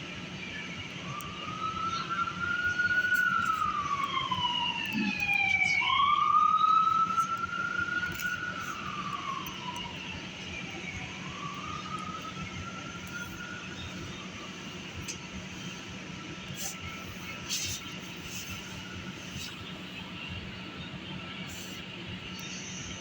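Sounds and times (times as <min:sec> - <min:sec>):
siren wailing: 0:00.0 - 0:22.9
steady low hum: 0:00.0 - 0:23.0.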